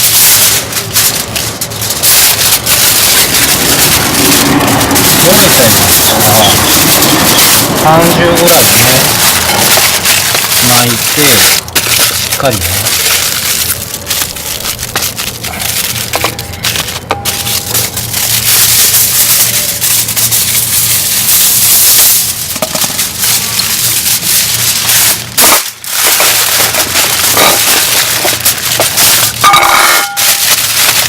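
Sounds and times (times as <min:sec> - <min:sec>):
aluminium foil crinkling: 0:00.0 - 0:31.0.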